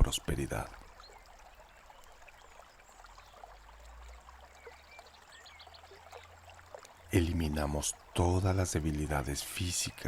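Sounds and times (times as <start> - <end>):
babbling stream: 0.0 - 10.0.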